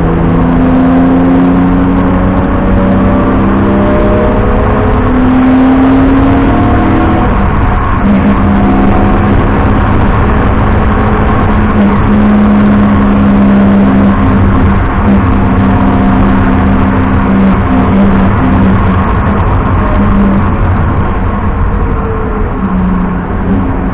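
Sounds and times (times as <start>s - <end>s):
car engine pulling hard: 0.0s - 23.9s
constant rushing noise: 3.7s - 23.9s.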